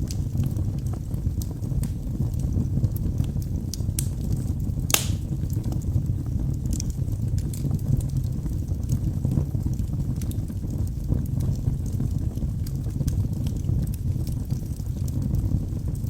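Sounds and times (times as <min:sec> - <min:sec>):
fire popping: 0:00.0 - 0:16.0
wood logs burning and crackling: 0:00.0 - 0:16.0.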